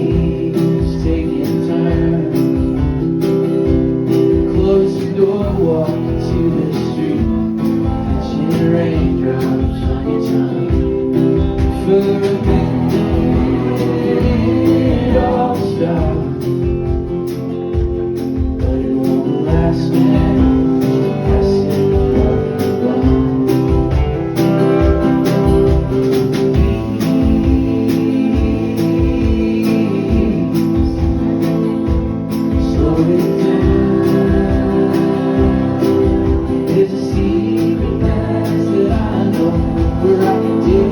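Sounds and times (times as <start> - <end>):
strummed acoustic guitar: 0.0 - 40.9
steady beat: 5.6 - 40.9.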